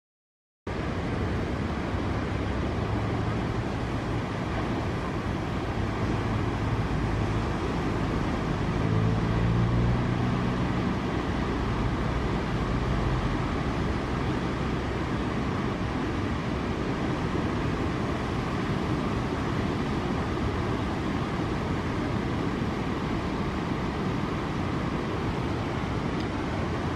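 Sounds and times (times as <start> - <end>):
car engine hum passing: 0.7 - 26.9
surf roar: 0.7 - 26.9.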